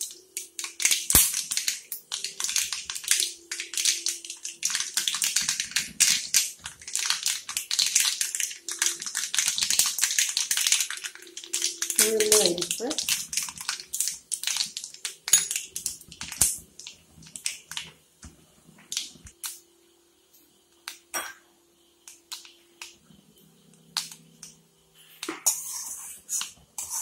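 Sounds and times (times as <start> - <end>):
seeds popping in hot oil: 0.0 - 19.7, 22.0 - 23.0, 23.6 - 24.6
faint steady hum: 0.0 - 27.0.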